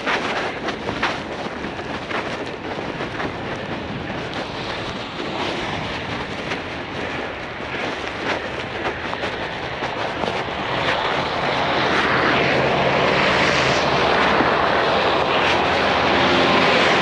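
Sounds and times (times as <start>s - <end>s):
bicycle tyres rolling over snow: 0.0s - 17.0s
wind buffeting microphone: 0.0s - 17.0s.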